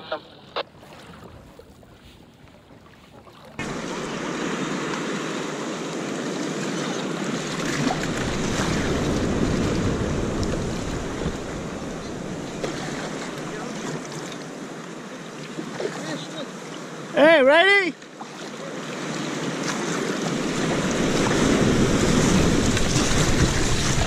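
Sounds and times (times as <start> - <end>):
surf breaking and water splashing: 0.0 - 24.0.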